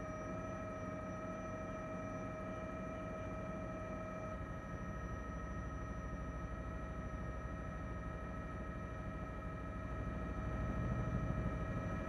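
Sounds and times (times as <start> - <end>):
constant high whine: 0.0 - 12.0.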